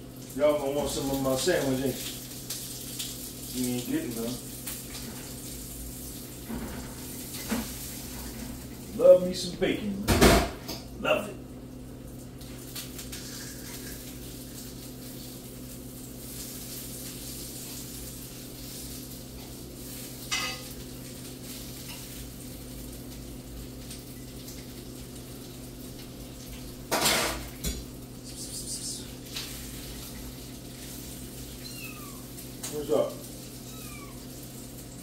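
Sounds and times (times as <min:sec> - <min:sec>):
bacon sizzling in a pan: 0:00.0 - 0:09.8, 0:12.2 - 0:35.0.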